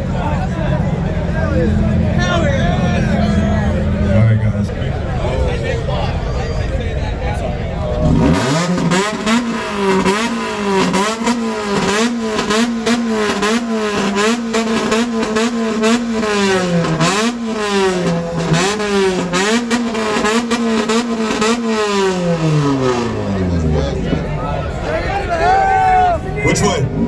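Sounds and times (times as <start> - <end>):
car engine revving: 0.0 - 27.0
exhaust cracks: 0.0 - 27.0.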